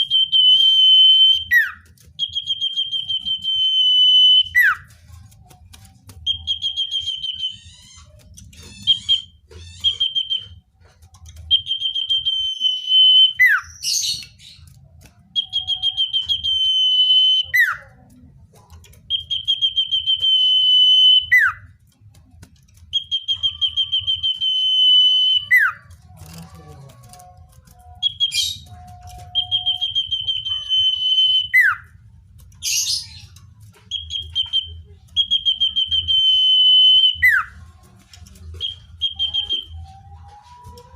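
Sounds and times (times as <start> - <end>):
bird whistling song: 0.0 - 5.0, 6.2 - 10.6, 11.2 - 14.7, 15.3 - 17.8, 19.0 - 21.7, 22.9 - 26.0, 27.7 - 32.0, 32.6 - 37.6, 38.5 - 40.9.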